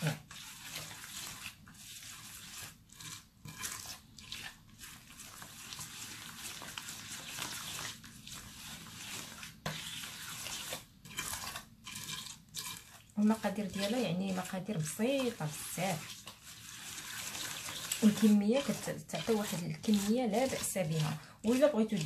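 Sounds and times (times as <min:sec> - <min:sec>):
hand squishing greasy dough: 0:00.0 - 0:22.0.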